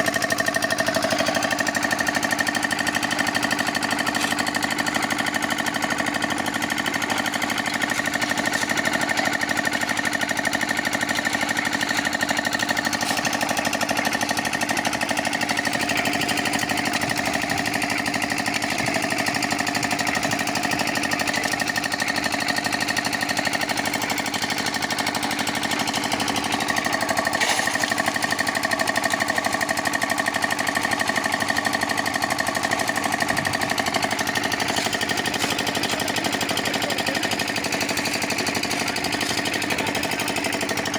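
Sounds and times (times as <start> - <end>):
concrete mixer rattling: 0.0 - 40.9.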